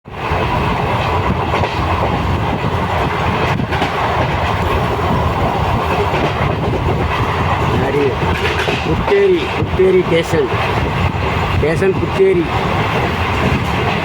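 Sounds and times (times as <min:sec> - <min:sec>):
train running on rails: 0:00.1 - 0:14.0.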